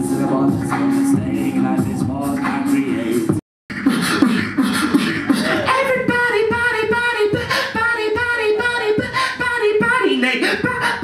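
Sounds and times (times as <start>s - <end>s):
beatboxing: 0.0s - 11.0s.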